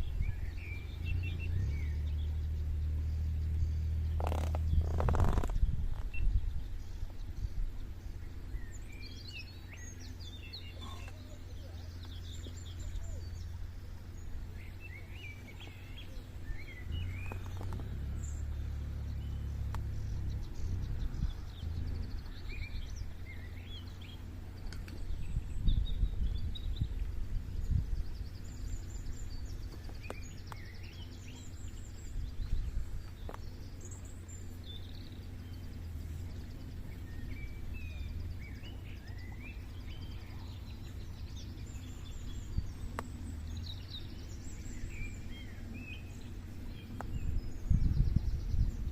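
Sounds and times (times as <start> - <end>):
small birds chirping: 0.0 - 48.9
wind rumble on microphone: 0.0 - 48.9.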